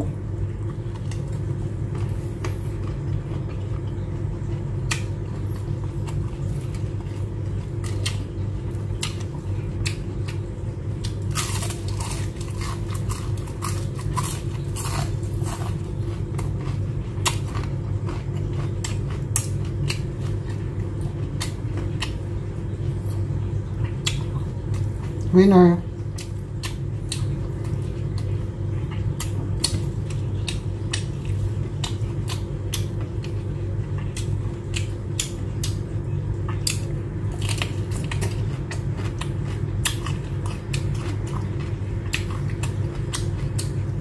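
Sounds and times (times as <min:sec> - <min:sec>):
chewing and crunching food: 0:00.0 - 0:44.0
steady low hum: 0:00.0 - 0:44.0.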